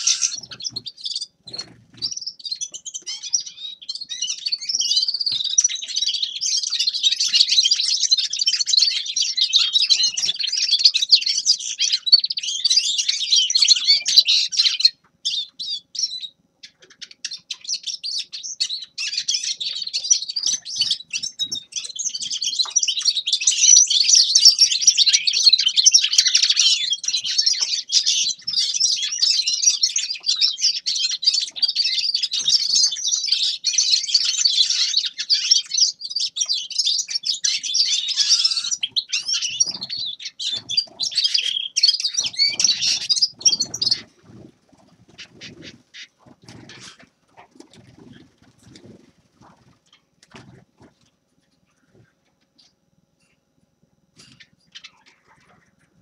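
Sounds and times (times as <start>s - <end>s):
finch twittering song: 0.0s - 47.0s.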